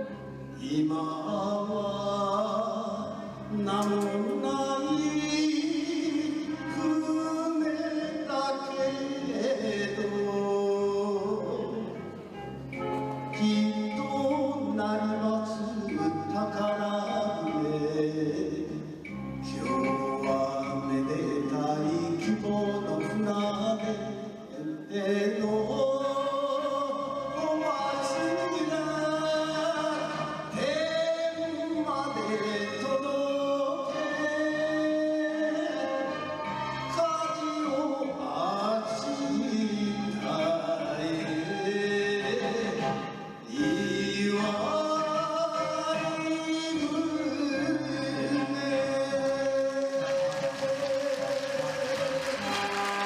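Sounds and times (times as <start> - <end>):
man singing: 0.0 - 12.4, 13.2 - 53.0
instrumental backing: 0.0 - 53.0.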